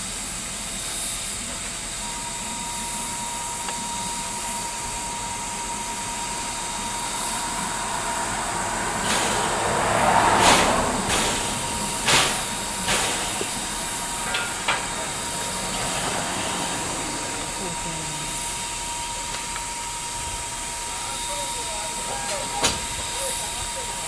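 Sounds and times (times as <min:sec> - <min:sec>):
locomotive steam puffs: 0:00.0 - 0:24.0
rush of steam: 0:00.0 - 0:24.0
steam hissing: 0:00.0 - 0:24.0.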